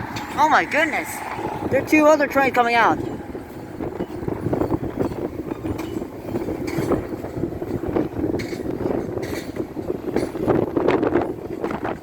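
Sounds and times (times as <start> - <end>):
train rumbling: 0.0 - 12.0
wheels clattering on track: 0.0 - 12.0
wind buffeting microphone: 0.0 - 12.0.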